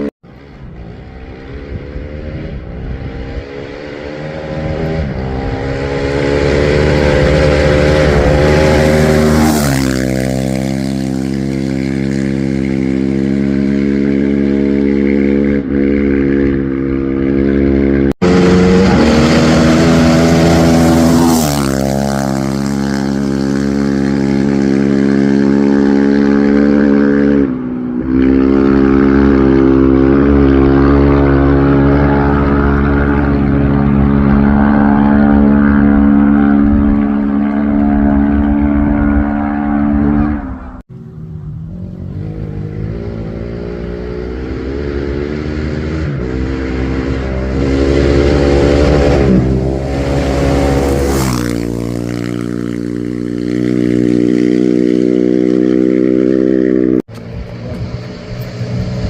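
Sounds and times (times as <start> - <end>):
rally vehicle engine running hard: 0.0 - 59.0.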